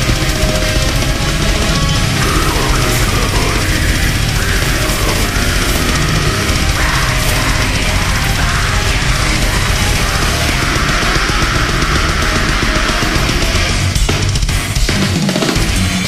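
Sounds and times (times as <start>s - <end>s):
heavy metal music: 0.0s - 16.0s.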